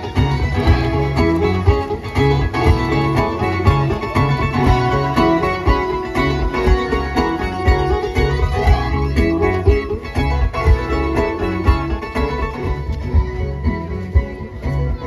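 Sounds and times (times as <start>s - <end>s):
amplified guitar music with beat: 0.0s - 15.0s.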